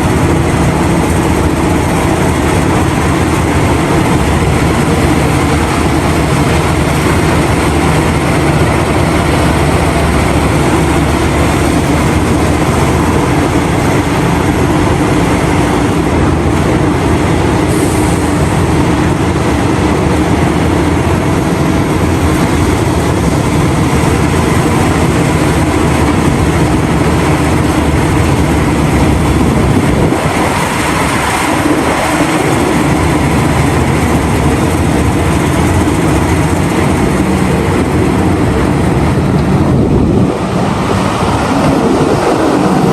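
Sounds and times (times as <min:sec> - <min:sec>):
heavy diesel engines under load: 0:00.0 - 0:42.9.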